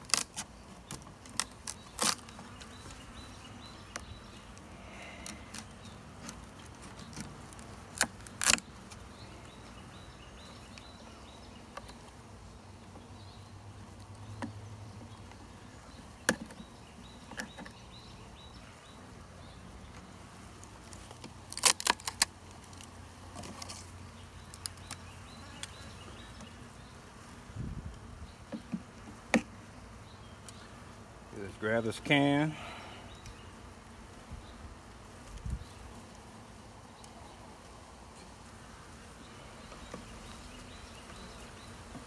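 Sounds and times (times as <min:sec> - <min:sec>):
honey bees humming: 0:00.0 - 0:42.0.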